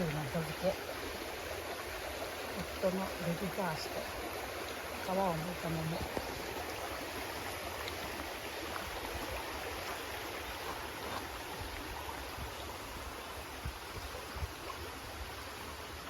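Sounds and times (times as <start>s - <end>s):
stream flowing: 0.0s - 16.0s.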